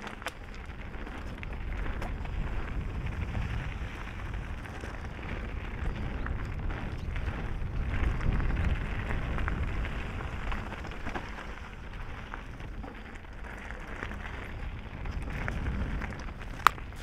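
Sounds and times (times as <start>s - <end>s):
bike tyres crunching on gravel: 0.0s - 17.0s
wind noise on microphone: 0.0s - 17.0s.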